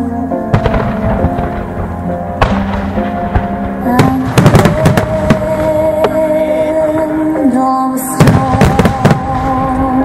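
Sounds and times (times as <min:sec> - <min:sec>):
music with long held notes: 0:00.0 - 0:10.0
fireworks bursting: 0:00.5 - 0:10.0.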